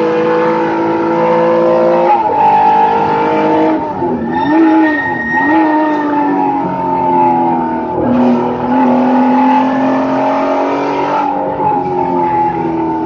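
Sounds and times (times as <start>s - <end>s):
race car engine accelerating: 0.0s - 13.0s
road and wind noise: 0.0s - 13.0s.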